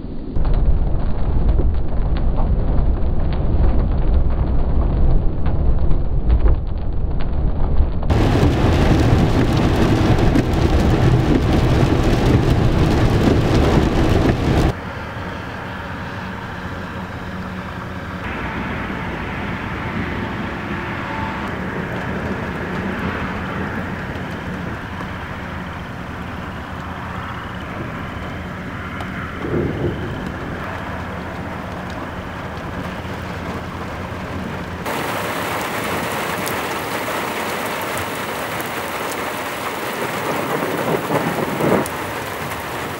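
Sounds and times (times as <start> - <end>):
rain: 0.0 - 42.9
rumbling thunder: 0.2 - 14.8, 18.3 - 42.9
road noise on wet highway: 8.0 - 42.9.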